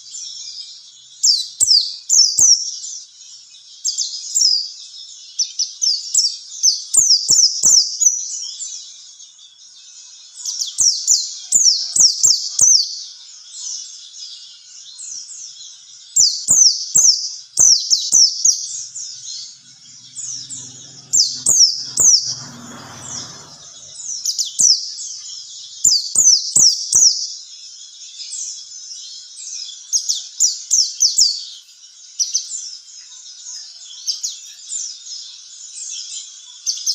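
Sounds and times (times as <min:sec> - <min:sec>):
bird twittering song: 0:00.0 - 0:36.9.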